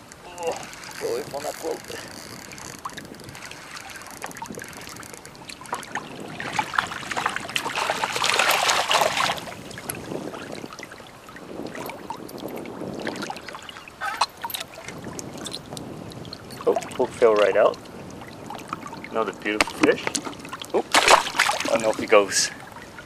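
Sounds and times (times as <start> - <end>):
water splashing and lapping: 0.0 - 23.0.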